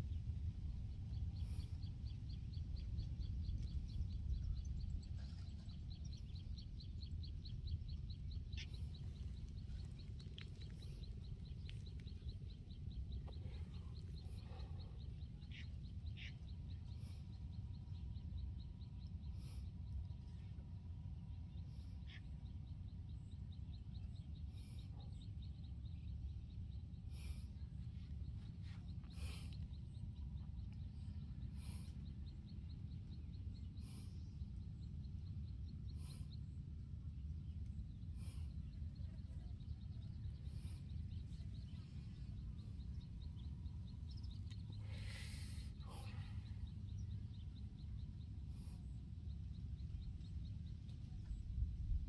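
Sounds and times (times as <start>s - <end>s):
low steady rumble: 0.0s - 52.0s
bird chirping: 0.8s - 20.6s, 21.2s - 52.0s.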